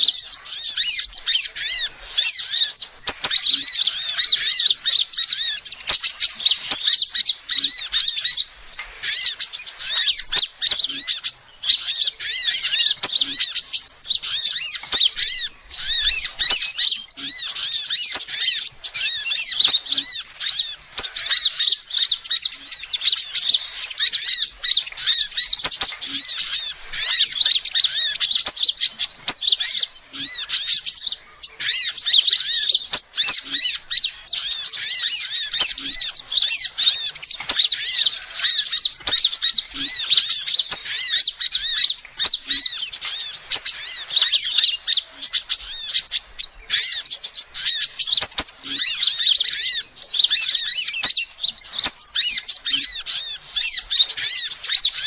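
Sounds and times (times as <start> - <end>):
bird twittering chirps: 0.0 - 55.0.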